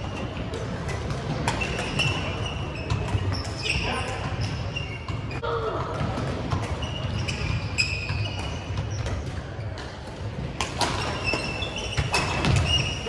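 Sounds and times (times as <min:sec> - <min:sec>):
sneakers squeaking on wooden floor: 0:00.0 - 0:05.4, 0:06.0 - 0:13.0.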